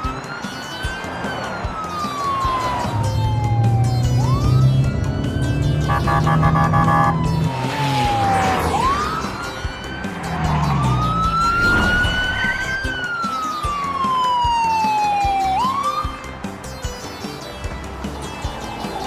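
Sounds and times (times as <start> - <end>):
police siren wailing: 0.0 - 16.3.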